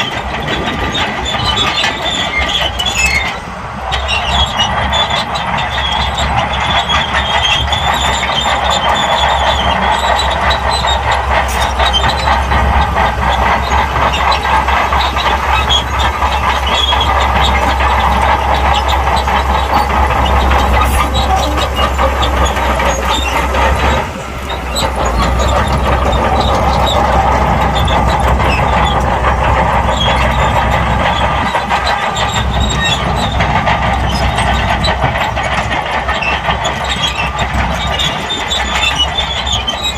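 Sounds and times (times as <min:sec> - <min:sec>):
bulldozer diesel engine under load: 0:00.0 - 0:39.9
steel tracks clattering and squealing: 0:00.0 - 0:39.9.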